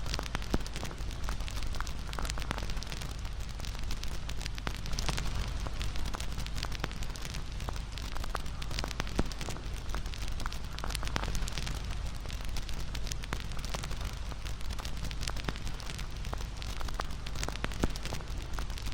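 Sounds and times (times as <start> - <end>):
campfire wood crackling: 0.0 - 18.9.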